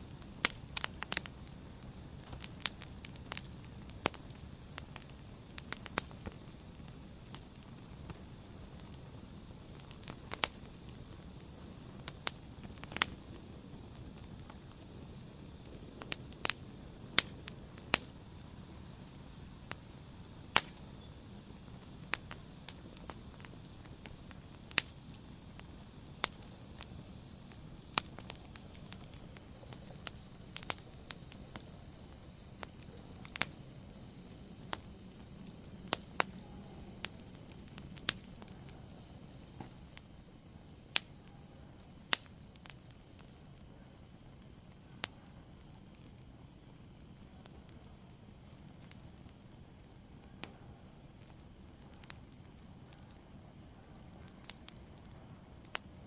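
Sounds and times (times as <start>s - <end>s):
fire crackling and popping: 0.0s - 56.0s
low rumble of burning: 0.0s - 56.0s.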